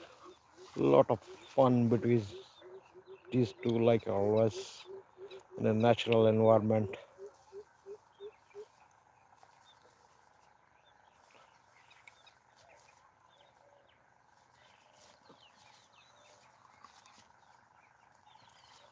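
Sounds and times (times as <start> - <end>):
distant birds chirping: 0.0 - 18.9
low-pitched bird calls: 0.0 - 18.9.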